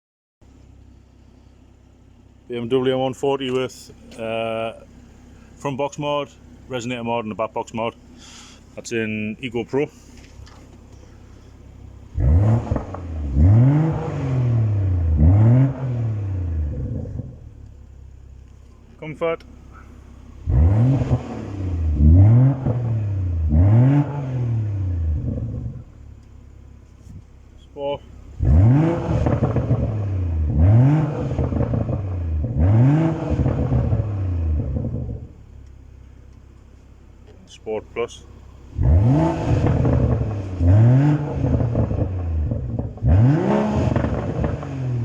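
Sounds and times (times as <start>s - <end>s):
car engine revving: 0.5s - 45.0s.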